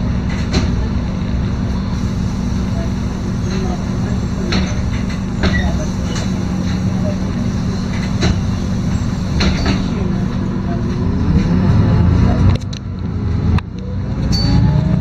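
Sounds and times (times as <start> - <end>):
bus engine rumble: 0.0 - 15.0
drivetrain whine: 0.0 - 15.0.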